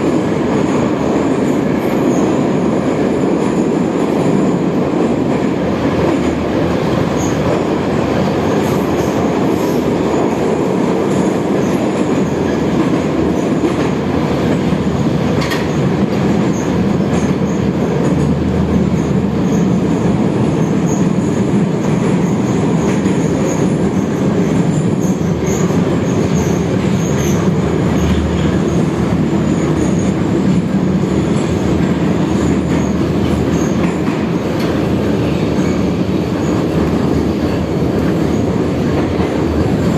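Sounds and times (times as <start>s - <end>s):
train clicks: 0.0s - 39.9s
train wheels rumbling: 0.0s - 39.9s.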